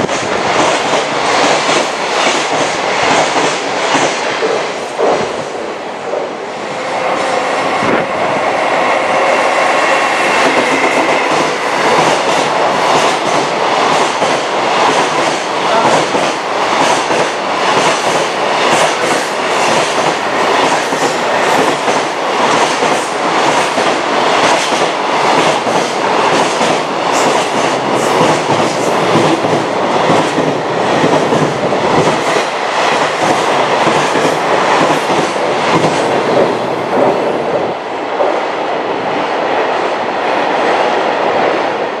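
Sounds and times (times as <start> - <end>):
wheels clickety-clack on rail joints: 0.0 - 5.6, 10.0 - 38.5
freight train passing: 0.0 - 42.0.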